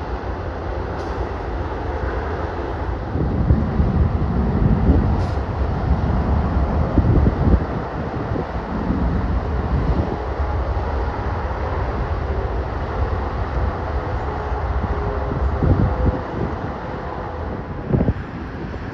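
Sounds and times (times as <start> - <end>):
jet engines rumbling: 0.0 - 18.9
wind buffeting microphone: 0.0 - 18.9.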